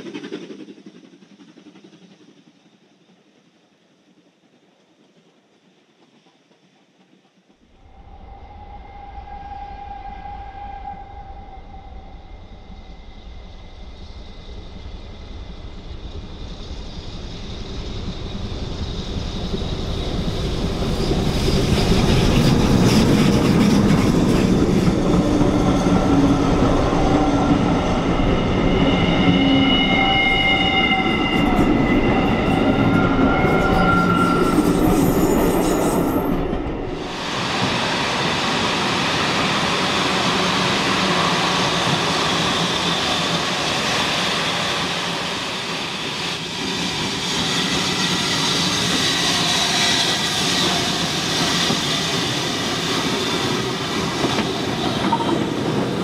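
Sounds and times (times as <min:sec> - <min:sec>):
steam train passing: 0:00.0 - 0:56.0
wheels rumbling on rail: 0:00.0 - 0:56.0.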